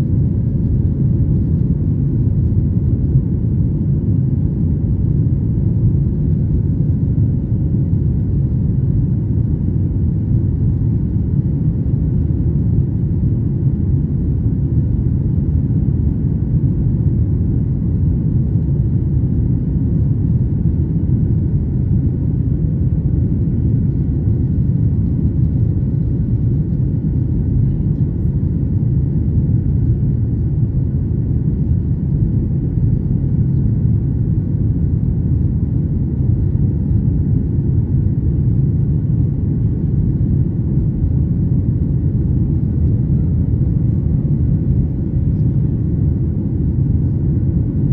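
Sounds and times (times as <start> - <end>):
airliner cabin rumble: 0.0 - 47.9.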